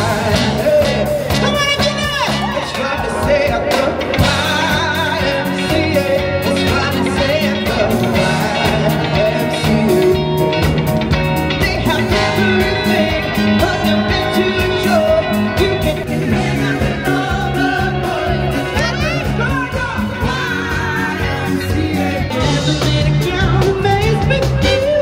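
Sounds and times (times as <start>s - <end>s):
person singing: 0.0s - 10.7s, 11.4s - 25.0s
live rock band playing: 0.0s - 25.0s.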